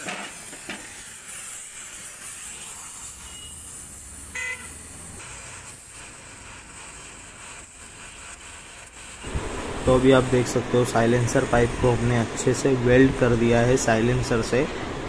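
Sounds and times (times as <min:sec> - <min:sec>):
welding torch flame hissing: 0:00.0 - 0:14.7.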